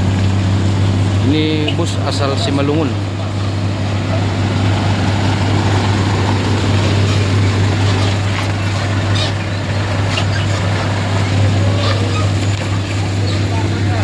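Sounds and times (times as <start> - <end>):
vehicle engines in slow traffic: 0.0 - 14.0.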